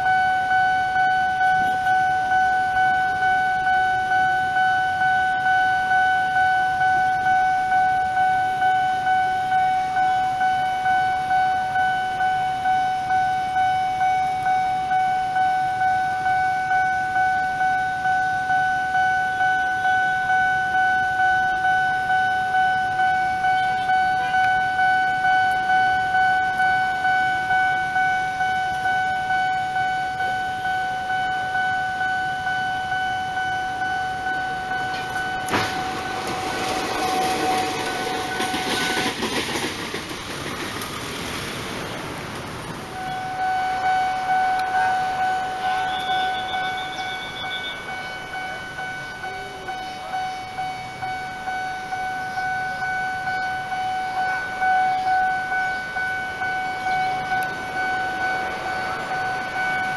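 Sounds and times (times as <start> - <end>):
diesel locomotive approaching: 0.0 - 59.9
railroad crossing bell ringing: 0.0 - 59.9.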